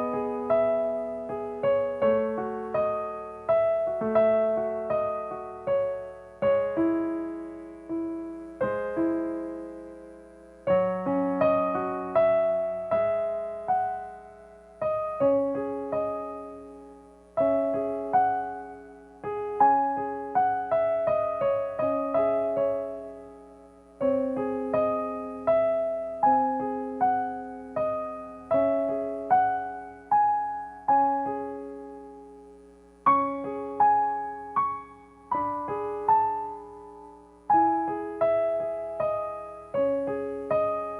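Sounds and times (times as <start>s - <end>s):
solo piano playing: 0.0s - 40.9s.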